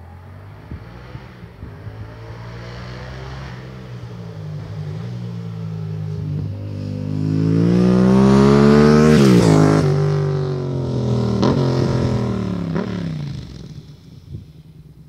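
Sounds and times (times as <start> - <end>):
motorcycle engine revving: 0.4 - 14.5.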